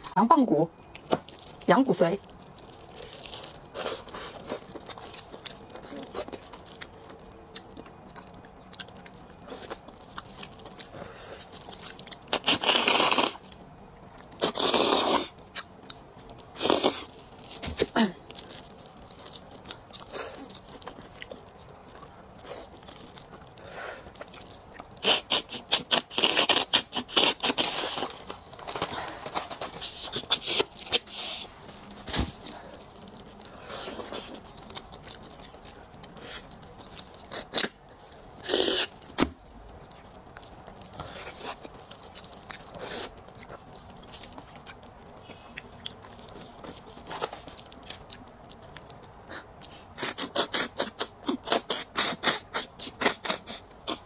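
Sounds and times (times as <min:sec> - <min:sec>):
wet chewing and gnawing on bone: 0:00.8 - 0:54.0.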